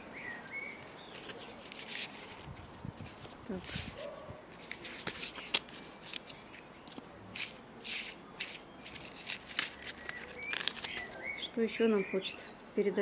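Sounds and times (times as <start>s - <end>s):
cards being shuffled: 0.8s - 11.5s.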